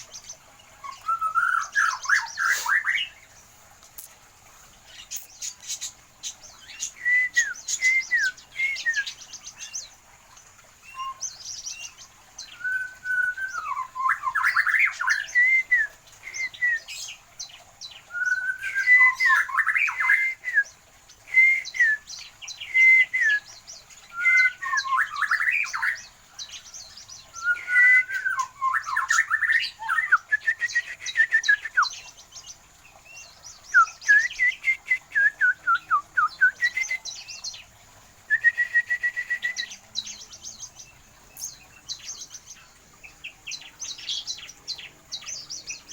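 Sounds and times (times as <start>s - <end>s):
small birds chirping and singing: 0.0s - 45.9s.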